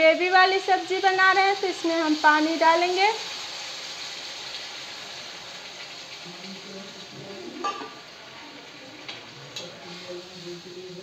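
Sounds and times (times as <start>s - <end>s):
water sizzling in hot pan: 0.0s - 11.0s.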